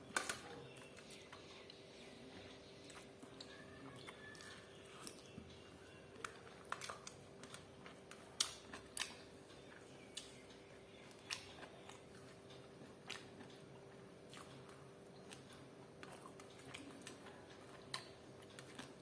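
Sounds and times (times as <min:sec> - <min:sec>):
faint steady hum: 0:00.0 - 0:19.0
person chewing and crunching food: 0:00.1 - 0:19.0.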